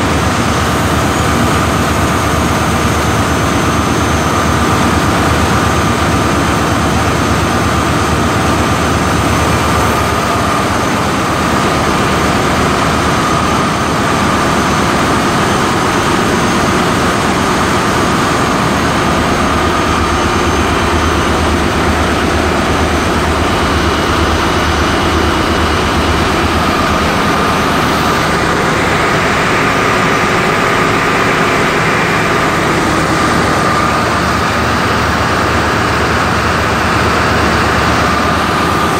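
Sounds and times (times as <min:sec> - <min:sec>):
air conditioning machinery drone: 0:00.0 - 0:38.9
high compressor whine: 0:00.0 - 0:38.9.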